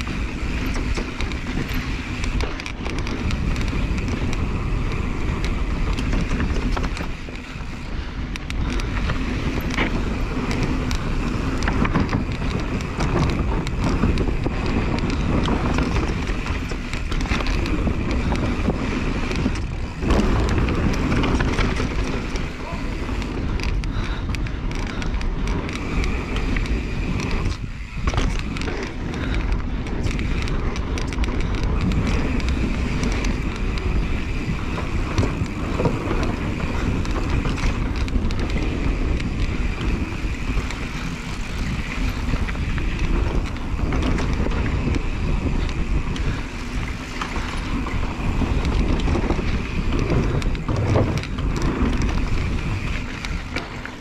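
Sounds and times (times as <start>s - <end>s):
bike knocks and rattles: 0.0s - 54.0s
tyres rolling over dirt: 0.0s - 54.0s.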